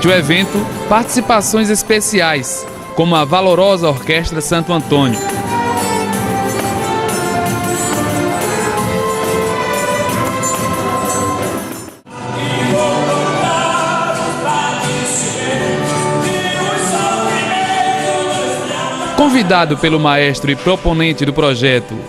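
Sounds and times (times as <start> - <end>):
live concert music with singing: 0.0 - 22.0.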